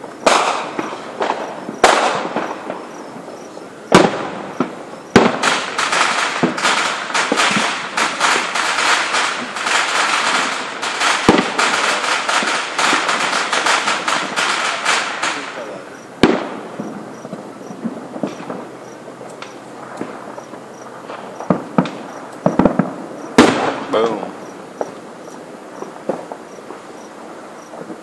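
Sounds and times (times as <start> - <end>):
louder firework bangs: 0.0 - 25.1, 25.7 - 28.0
loud firework booms: 0.0 - 28.0
rapid firework crackling: 0.0 - 28.0.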